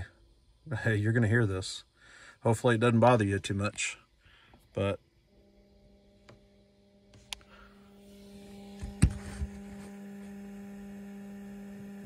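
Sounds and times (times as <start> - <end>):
radio speaker electronic hum: 0.0 - 12.0.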